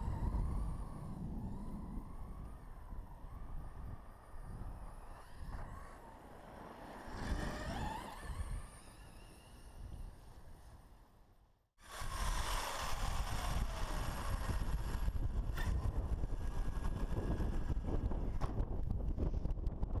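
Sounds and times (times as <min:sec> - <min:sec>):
wind buffeting microphone: 0:00.0 - 0:06.4, 0:07.0 - 0:10.8, 0:11.8 - 0:20.0
toy truck motor driving: 0:00.0 - 0:11.2, 0:11.8 - 0:19.1.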